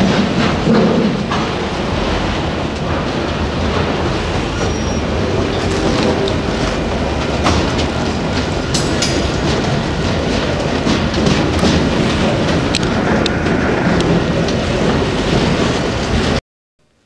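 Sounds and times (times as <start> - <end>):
train cars clicking and clanking: 0.0 - 16.4
train wheels rumbling on rail: 0.0 - 16.4.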